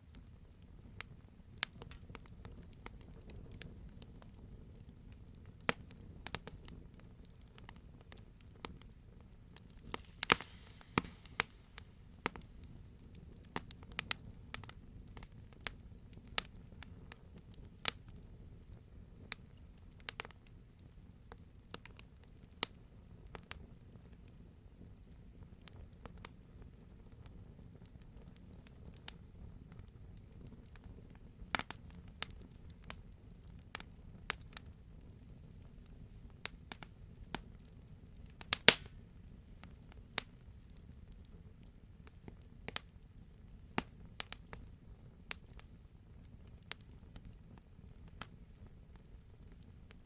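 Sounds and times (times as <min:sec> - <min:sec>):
low rumble of flames: 0:00.0 - 0:50.0.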